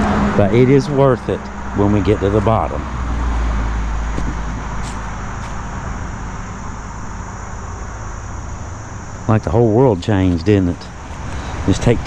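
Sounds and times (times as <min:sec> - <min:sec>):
highway traffic rumble and hiss: 0:00.0 - 0:12.0.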